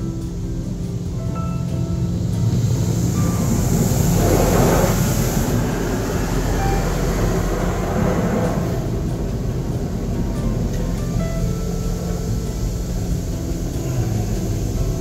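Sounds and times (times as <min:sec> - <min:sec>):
car wash water jets spraying: 0:00.0 - 0:15.0.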